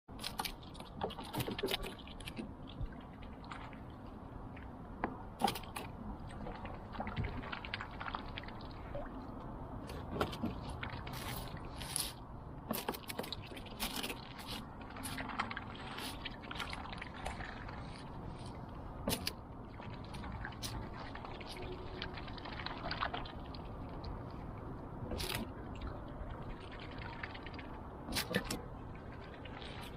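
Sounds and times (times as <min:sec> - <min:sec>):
small splashes: 0:00.1 - 0:29.9.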